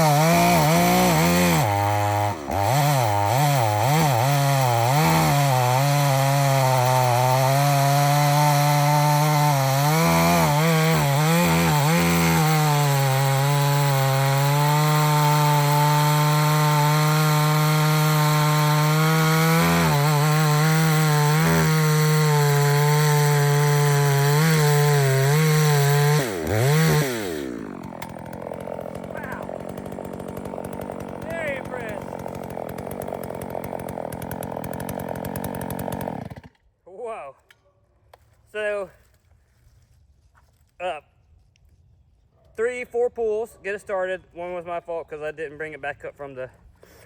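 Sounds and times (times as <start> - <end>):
chainsaw cutting log: 0.0 - 36.7, 45.7 - 47.0.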